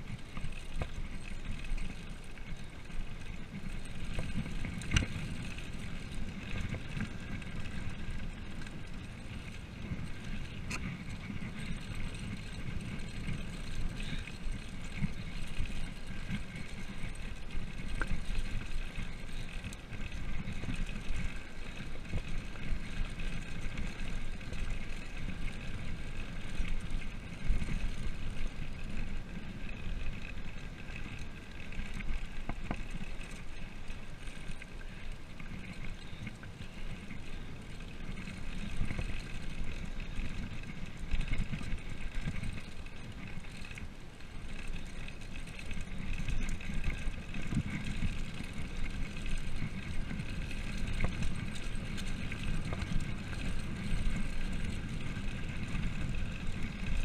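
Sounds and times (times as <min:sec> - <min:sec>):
bike tyres rolling on road: 0:00.0 - 0:57.0.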